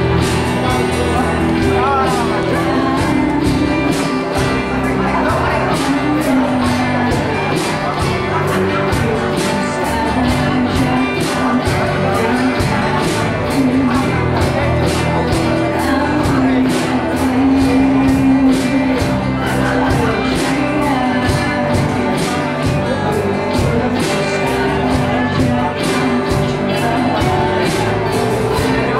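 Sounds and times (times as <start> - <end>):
person singing lead vocal: 0.0 - 28.9
rock band playing live: 0.0 - 28.9.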